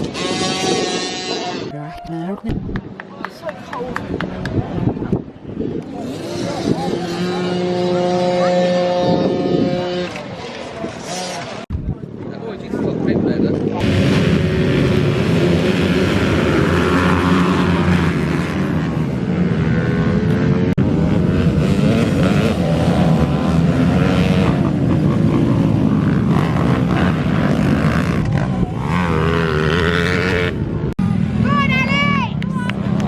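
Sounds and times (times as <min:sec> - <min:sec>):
minibike engines racing: 0:00.0 - 0:01.7, 0:03.0 - 0:33.0.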